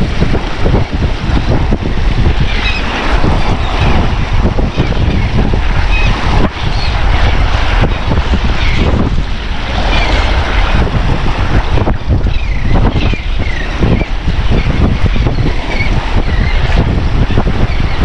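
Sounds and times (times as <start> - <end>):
rushing water and surf: 0.0 - 18.0
wind buffeting microphone: 0.0 - 18.0.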